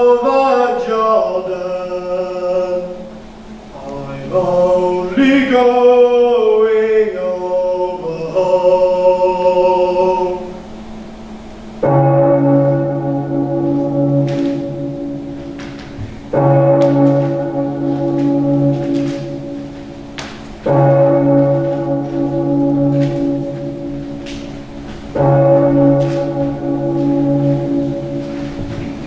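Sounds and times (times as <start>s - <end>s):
large church bell tolling: 0.0s - 29.0s.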